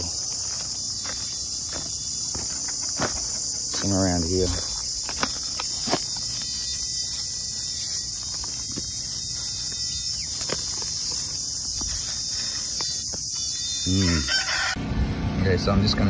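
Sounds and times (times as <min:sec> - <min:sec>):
footsteps on dry leaves: 0:00.0 - 0:14.7
high-pitched insect chorus: 0:00.0 - 0:14.8.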